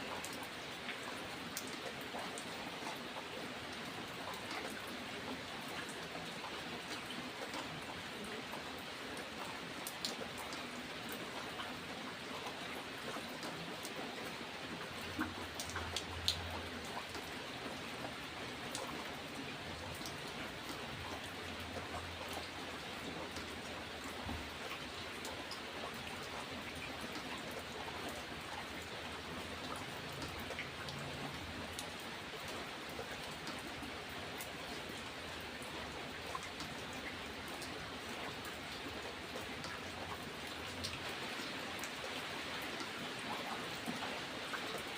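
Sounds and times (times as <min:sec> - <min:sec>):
raindrops ticking: 0:00.0 - 0:44.9
steady rain falling: 0:00.0 - 0:44.9.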